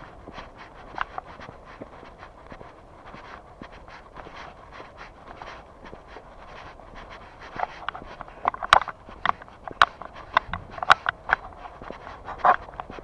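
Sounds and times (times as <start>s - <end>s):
footsteps on street: 0.0s - 13.0s.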